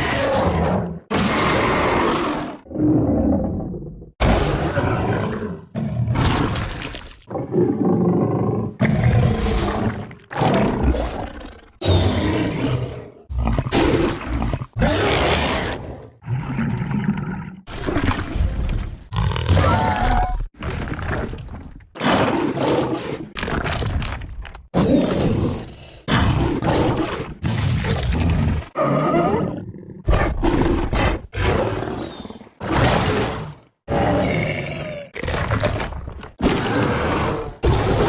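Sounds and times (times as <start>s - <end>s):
monster roars and growls: 0.0s - 24.2s, 24.8s - 38.0s.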